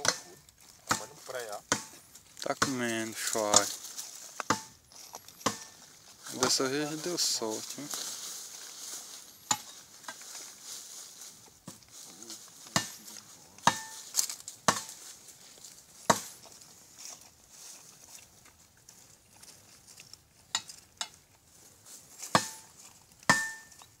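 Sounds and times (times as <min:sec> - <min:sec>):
dry leaves crackling and rustling: 0:00.0 - 0:24.0.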